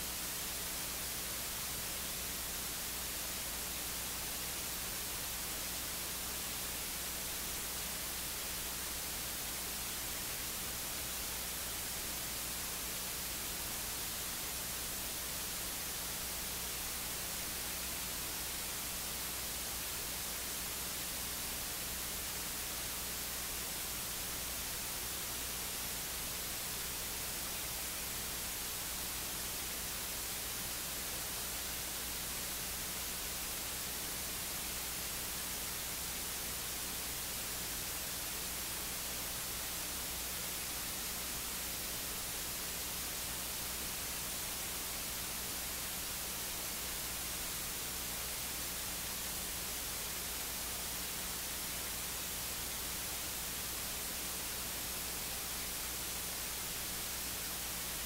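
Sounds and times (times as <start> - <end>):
low electrical hum: 0.0 - 58.0
static hiss: 0.0 - 58.0.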